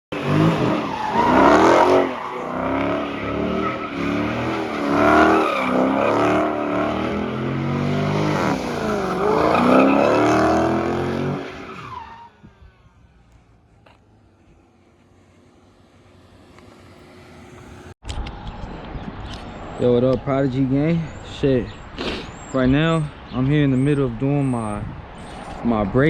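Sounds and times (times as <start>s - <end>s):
car engine revving: 0.1s - 26.0s.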